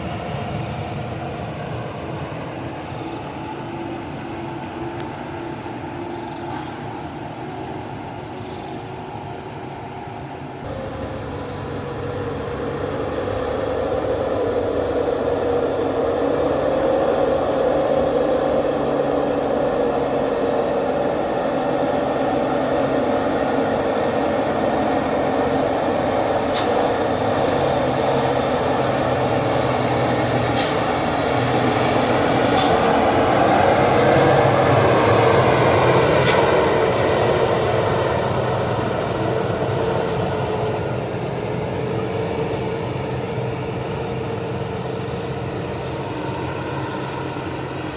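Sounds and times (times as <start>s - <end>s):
heavy truck engine droning: 0.0s - 47.9s.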